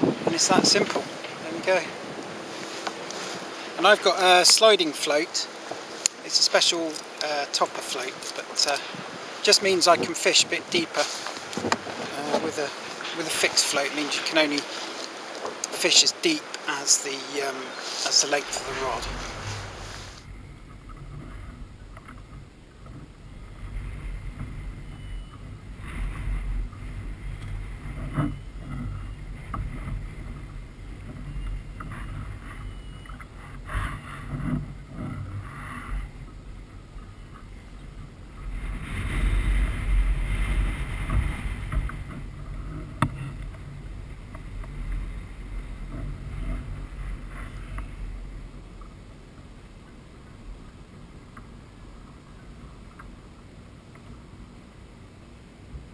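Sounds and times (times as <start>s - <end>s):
water against kayak hull: 0.0s - 55.9s
wind rumbling on microphone: 0.0s - 55.9s.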